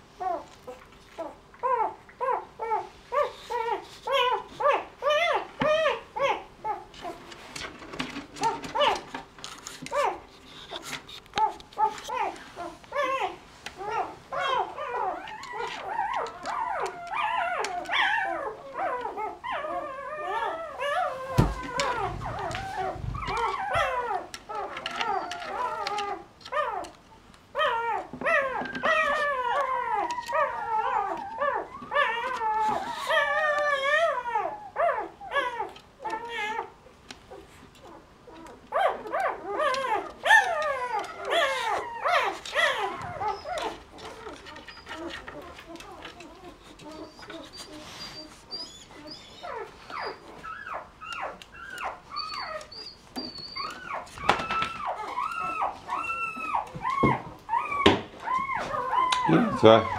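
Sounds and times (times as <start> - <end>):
puppies whining and squealing: 0.2 - 7.2, 7.8 - 59.9.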